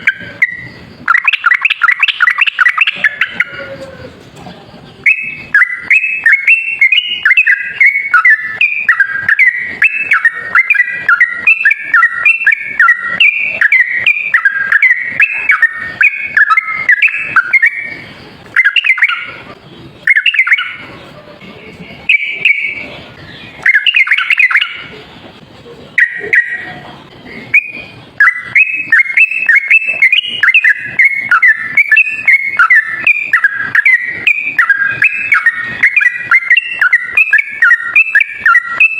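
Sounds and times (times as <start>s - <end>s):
bird singing whistled notes: 0.0s - 4.2s, 5.0s - 21.0s, 22.0s - 25.0s, 25.9s - 38.9s.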